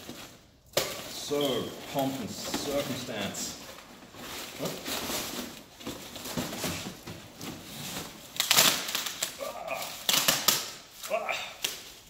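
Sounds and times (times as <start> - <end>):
paper and plastic wrap crinkling: 0.0 - 12.0.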